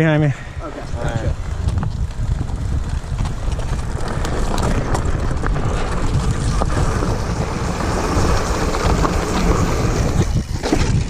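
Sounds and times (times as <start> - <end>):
wind buffeting microphone: 0.0 - 11.0
bike tyre rumble on dirt: 0.8 - 11.0.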